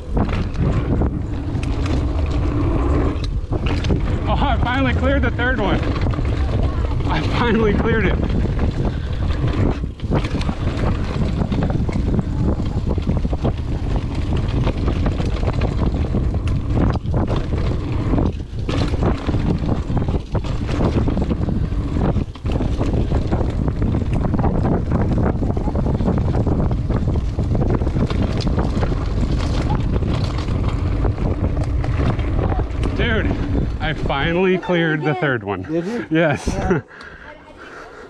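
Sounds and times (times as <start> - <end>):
bike clicks and rattles: 0.0 - 35.0
wind buffeting microphone: 0.0 - 37.4.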